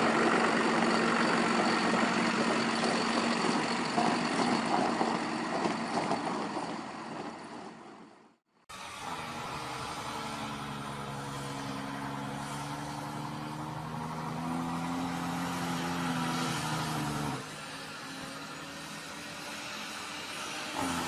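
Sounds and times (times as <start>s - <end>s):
vehicle engine running under load: 0.0s - 21.0s.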